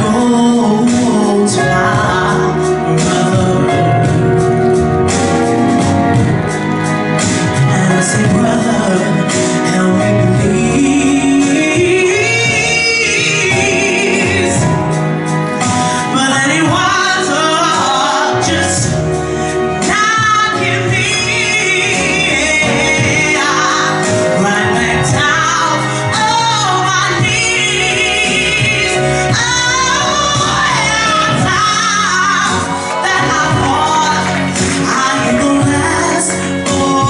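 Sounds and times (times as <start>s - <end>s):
band accompaniment: 0.0s - 37.0s
woman singing soul ballad: 0.0s - 37.0s.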